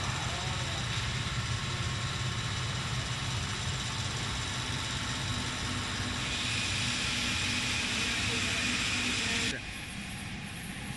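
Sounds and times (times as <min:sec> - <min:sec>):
cnc router drone: 0:00.0 - 0:10.9.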